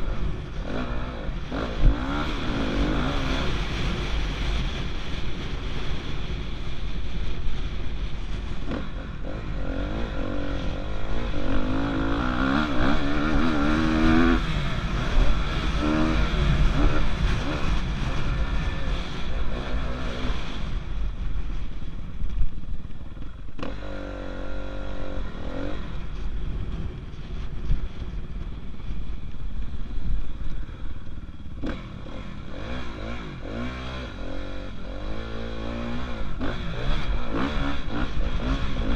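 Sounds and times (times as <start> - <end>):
dirt bike engine revving: 0.0 - 6.5, 8.3 - 21.6, 23.2 - 27.5, 29.9 - 38.9.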